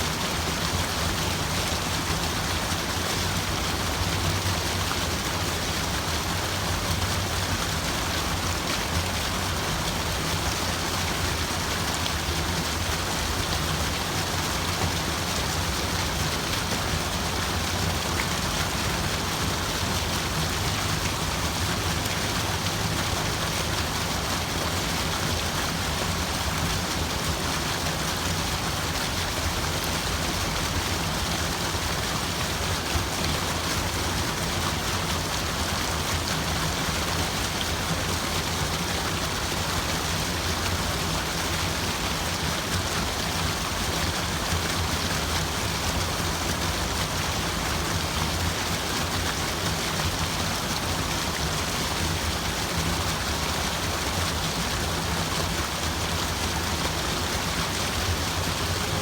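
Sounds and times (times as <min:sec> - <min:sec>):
rushing water hiss: 0:00.0 - 0:59.0.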